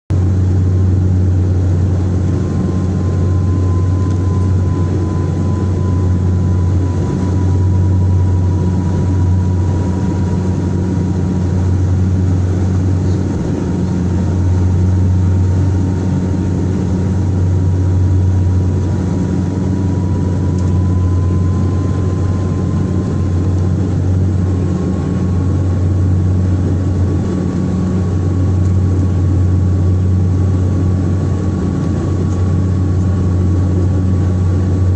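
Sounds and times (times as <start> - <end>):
low propeller drone: 0.1 - 34.9
thin engine whine: 0.1 - 34.9.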